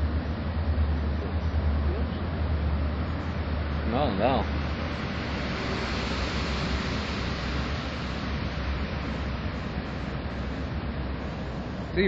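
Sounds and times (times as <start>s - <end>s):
constant low hum: 0.0s - 12.0s
wind-like rushing noise: 0.0s - 12.0s.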